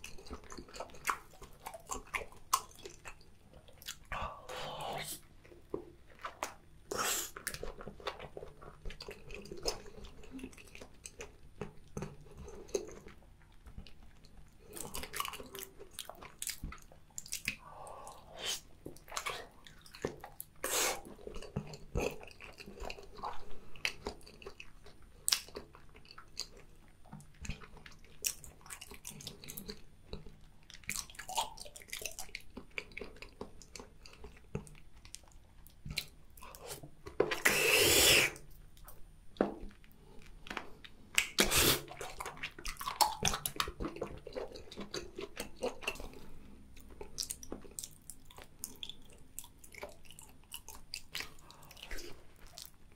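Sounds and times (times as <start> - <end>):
person chewing with wet smacks: 0.0 - 52.9.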